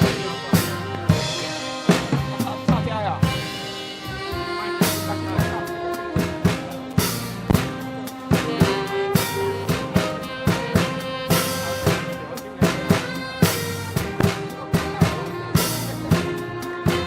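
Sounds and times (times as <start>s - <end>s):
drum kit beat: 0.0s - 17.0s
live band playing dance tune: 0.0s - 17.0s.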